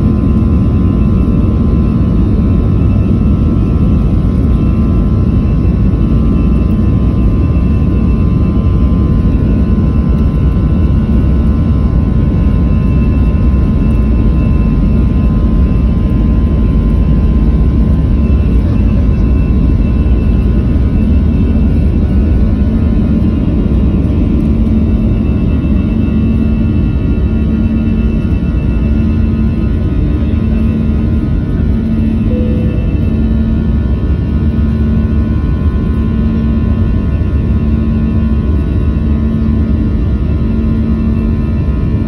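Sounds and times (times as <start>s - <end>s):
faint steady whine: 0.0s - 42.0s
jet engine cabin rumble: 0.0s - 42.0s.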